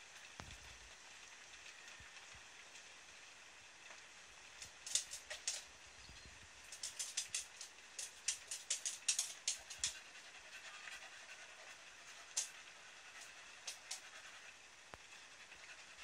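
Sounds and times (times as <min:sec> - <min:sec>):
raindrops ticking on hard surface: 0:00.0 - 0:05.8, 0:06.5 - 0:15.1
faint hiss of rain: 0:00.0 - 0:16.0.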